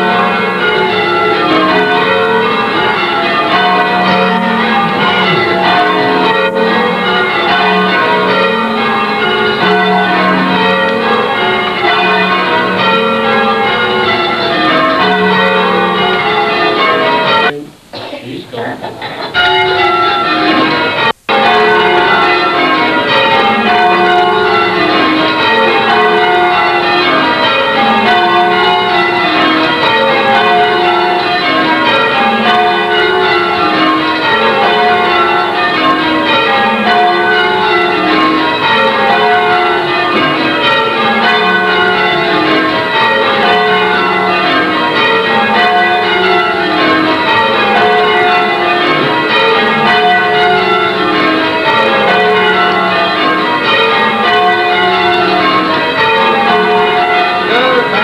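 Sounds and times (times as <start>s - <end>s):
church bells change ringing: 0.0s - 17.6s, 19.0s - 58.0s.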